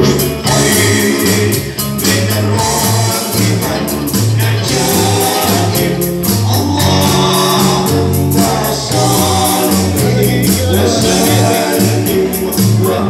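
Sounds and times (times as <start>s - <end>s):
bass line: 0.0s - 13.0s
electric guitars: 0.0s - 13.0s
electronic drum beat: 0.0s - 13.0s.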